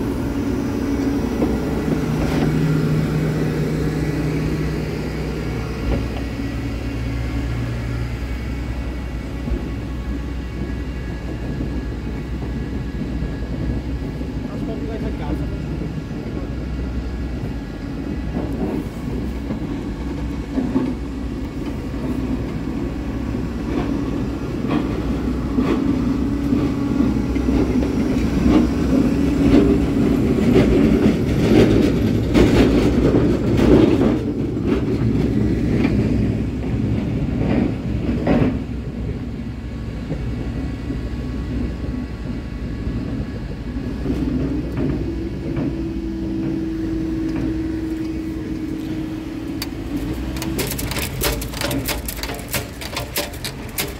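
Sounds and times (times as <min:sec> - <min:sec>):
vehicle engines rumbling: 0:00.0 - 0:53.9
wheels clicking over rail joints: 0:00.0 - 0:53.9.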